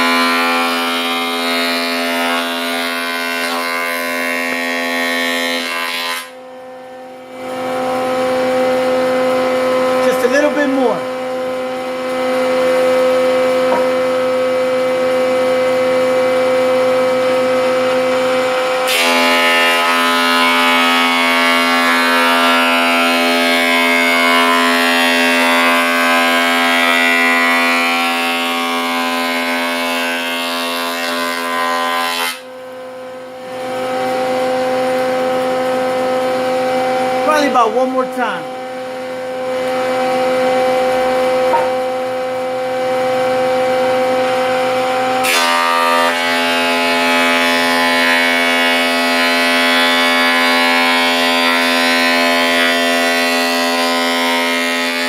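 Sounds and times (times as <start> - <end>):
planer shaving wood: 0.0 - 32.5, 33.2 - 55.0
electric planer motor whine: 0.0 - 37.2, 38.5 - 55.0.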